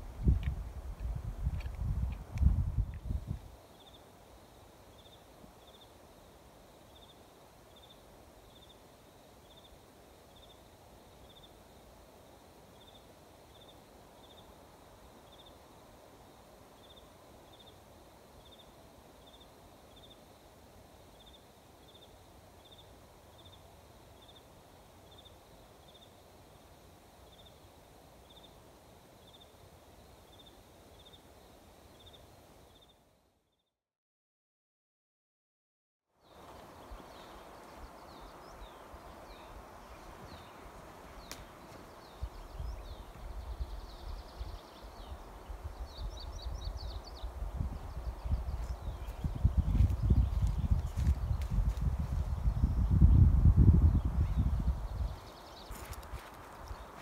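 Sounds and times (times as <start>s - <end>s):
insect chirping: 0.3s - 33.3s, 36.2s - 57.0s.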